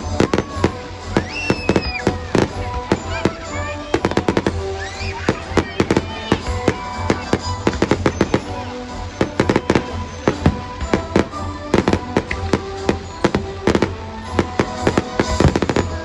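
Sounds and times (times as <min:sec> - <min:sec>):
fireworks bangs and crackles: 0:00.0 - 0:16.0
music: 0:00.0 - 0:16.0.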